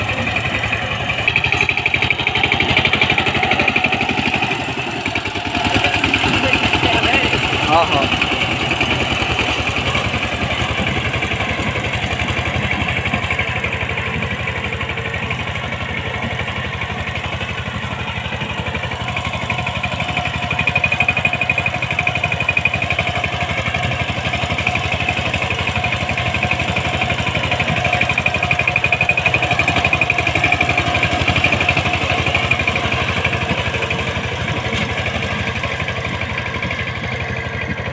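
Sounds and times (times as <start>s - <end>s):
power tiller engine running: 0.0s - 37.9s.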